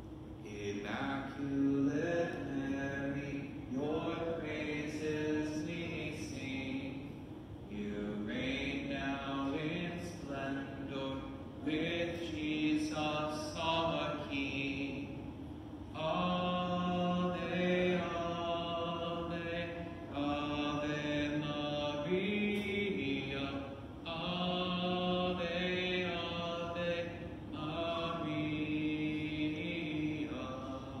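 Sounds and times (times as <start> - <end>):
hymn sung slowly: 0.0 - 31.0.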